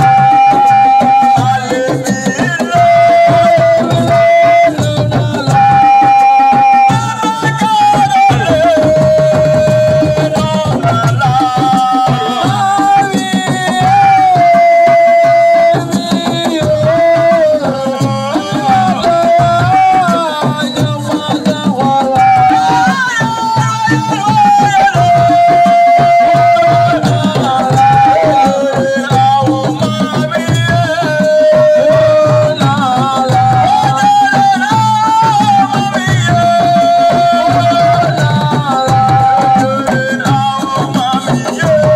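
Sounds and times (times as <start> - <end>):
hand drums beating: 0.0 - 41.9.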